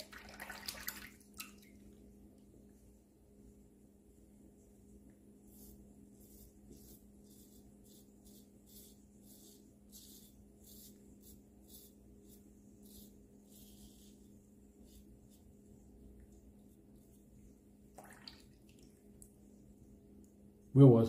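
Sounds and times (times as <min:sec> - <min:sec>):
steady low hum: 0:01.2 - 0:21.0.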